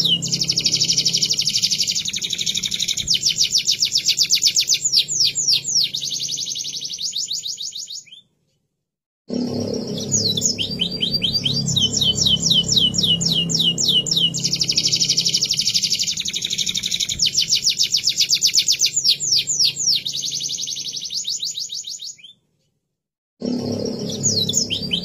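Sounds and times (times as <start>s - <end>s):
canary singing trills: 0.0s - 8.3s, 9.4s - 22.4s, 23.6s - 25.0s.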